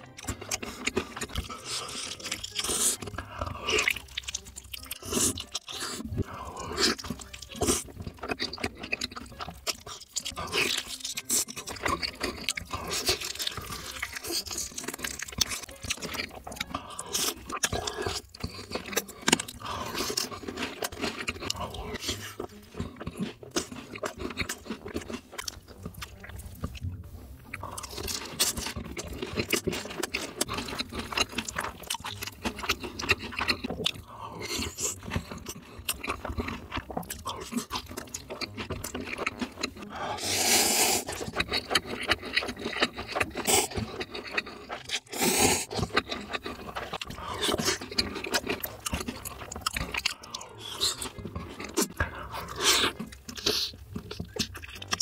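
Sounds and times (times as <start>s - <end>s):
crunching and chewing food: 0.0s - 55.0s
wet mouth sounds: 0.0s - 55.0s.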